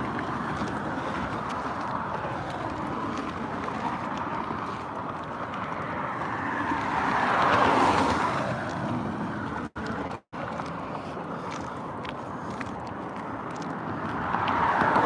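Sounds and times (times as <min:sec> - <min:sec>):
car engine noise: 0:00.0 - 0:15.0
car tyre noise: 0:00.0 - 0:15.0
vehicle passing by: 0:00.0 - 0:15.0.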